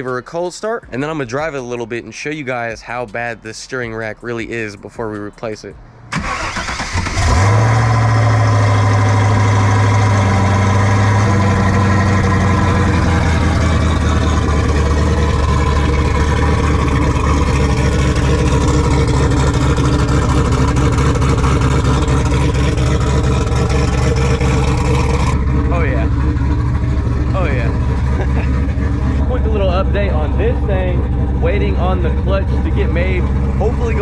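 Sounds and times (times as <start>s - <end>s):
car engine idling: 3.9s - 34.0s.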